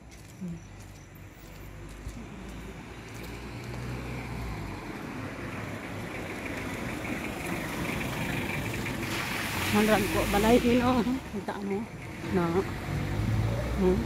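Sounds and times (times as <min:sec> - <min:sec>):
car approaching: 0:00.0 - 0:14.0.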